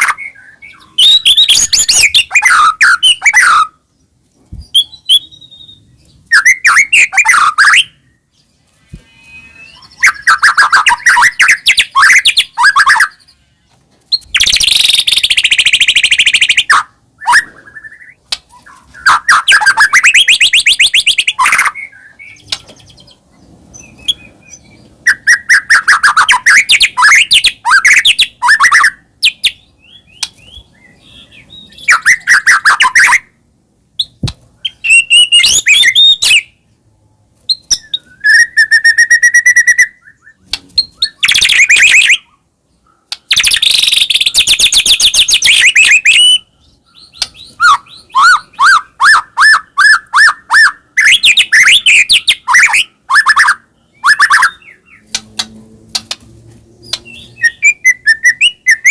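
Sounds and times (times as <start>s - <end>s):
songbird singing trills and whistles: 0.0s - 3.9s, 4.5s - 13.5s, 14.1s - 33.4s, 34.0s - 36.6s, 37.5s - 55.2s, 56.8s - 58.9s.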